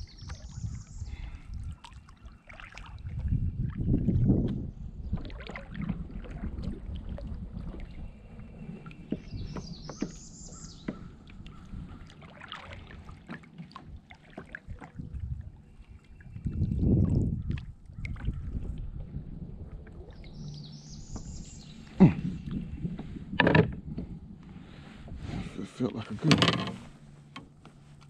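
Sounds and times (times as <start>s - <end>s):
wind rumble on microphone: 0.0s - 2.1s, 2.7s - 13.2s, 13.8s - 28.0s
water lapping against a hull: 0.0s - 28.0s.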